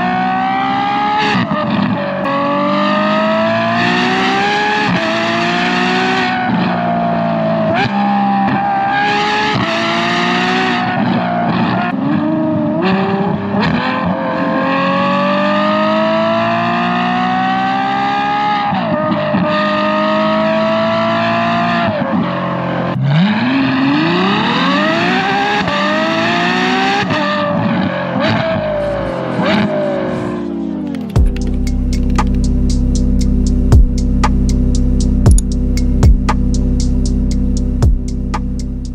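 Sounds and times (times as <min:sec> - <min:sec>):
sports car engine accelerating: 0:00.0 - 0:38.9.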